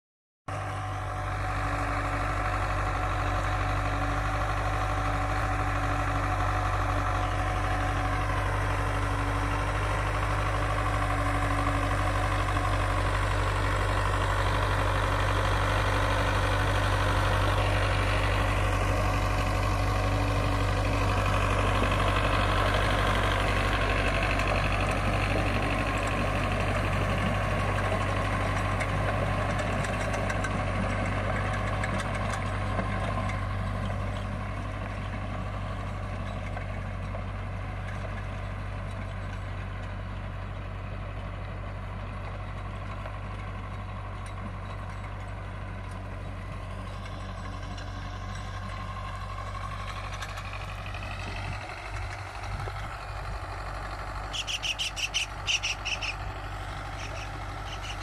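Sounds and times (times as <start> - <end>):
tractor diesel engine running: 0.5 - 58.0.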